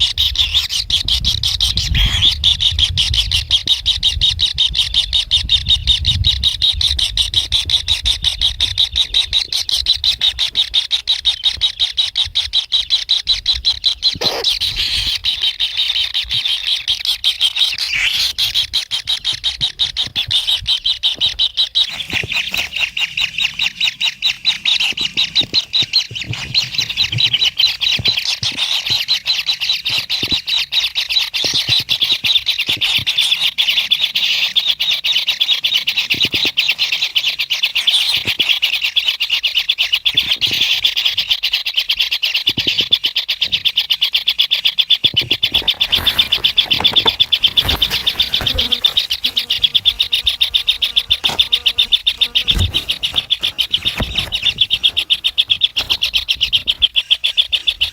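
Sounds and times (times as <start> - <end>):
bird chicks churring: 0.0 - 57.9.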